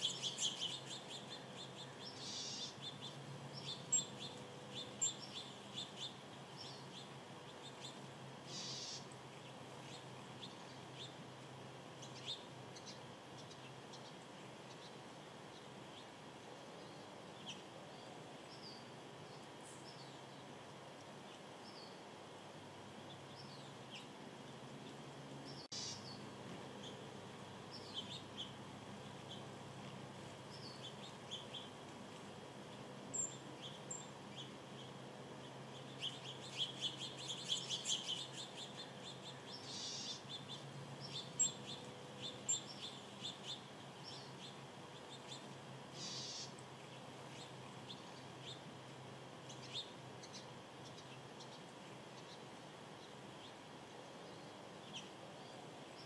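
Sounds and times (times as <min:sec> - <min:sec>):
faint steady hiss: 0:00.0 - 0:56.0
small birds chirping: 0:00.0 - 0:56.0.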